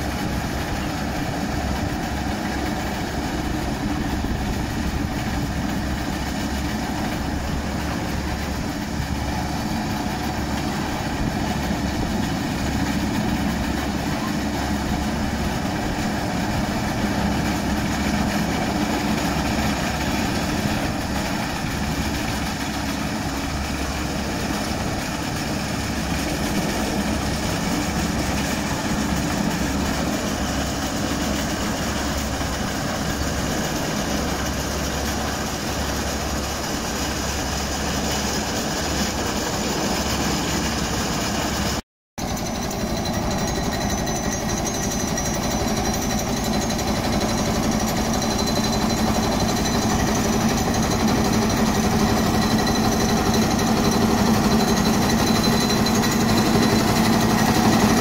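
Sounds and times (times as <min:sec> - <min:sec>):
vibratory roller compactor running: 0:00.0 - 0:58.0.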